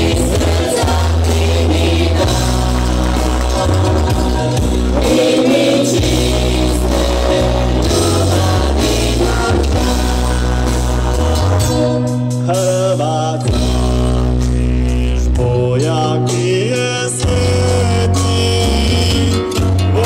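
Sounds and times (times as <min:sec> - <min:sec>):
live band music: 0:00.0 - 0:20.0
loud bass notes: 0:00.0 - 0:20.0.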